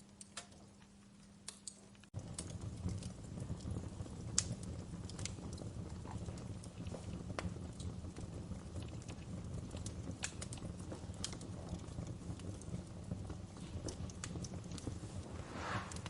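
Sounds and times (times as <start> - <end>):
logs crackling and popping: 0.1 - 16.0
wood fire rumbling: 0.2 - 16.0.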